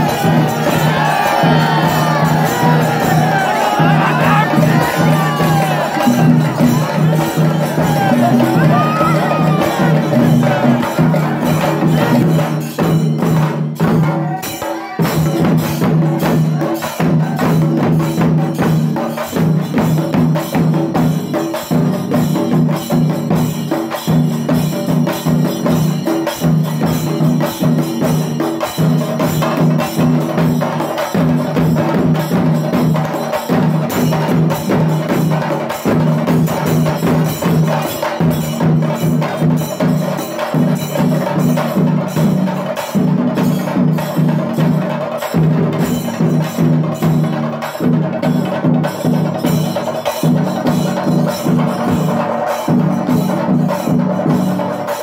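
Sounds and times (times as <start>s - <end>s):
fast dense drumming: 0.0s - 54.9s.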